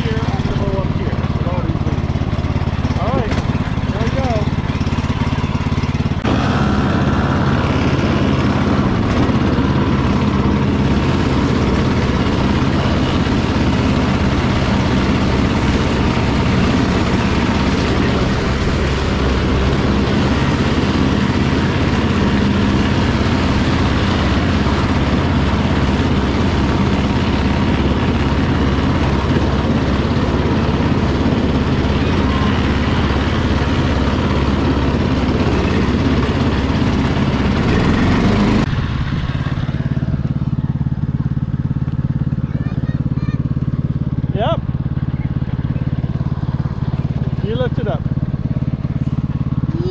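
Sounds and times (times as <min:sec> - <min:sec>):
riding lawn mower engine running: 0:00.0 - 0:49.9.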